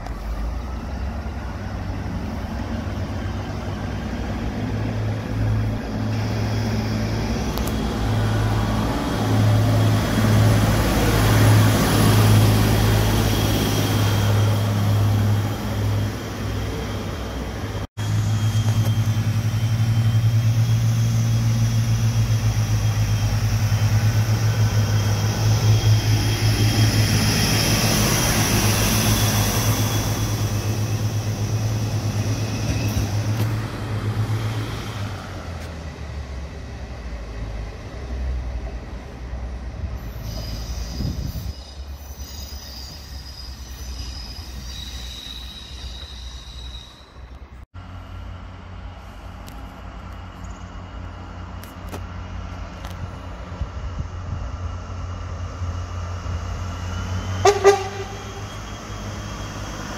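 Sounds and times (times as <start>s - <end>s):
train wheels squealing on rails: 0.0s - 38.4s, 39.2s - 59.9s
diesel train engine droning: 0.0s - 59.9s.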